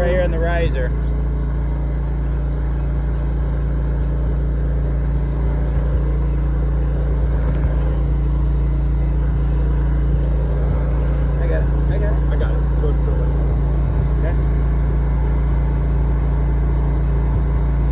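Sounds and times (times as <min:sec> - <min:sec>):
engine running with low drone: 0:00.0 - 0:17.9.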